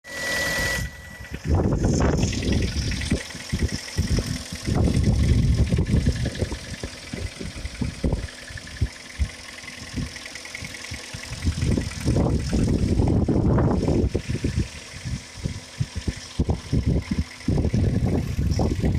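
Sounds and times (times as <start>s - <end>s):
wind buffeting microphone: 1.2s - 18.9s
car engine knocking: 1.3s - 18.9s.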